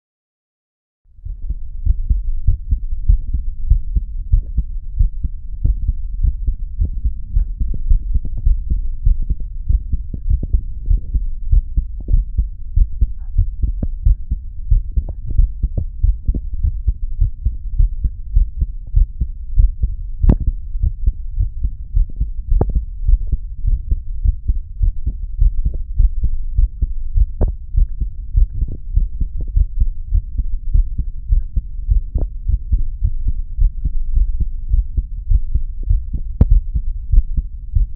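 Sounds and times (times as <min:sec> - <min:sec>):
heartbeat thuds: 0:01.2 - 0:37.9.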